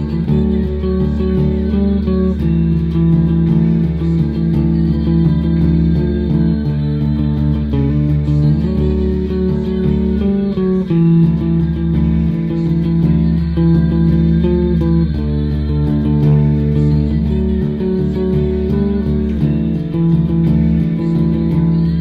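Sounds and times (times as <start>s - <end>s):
bass guitar strummed chords: 0.0s - 22.0s.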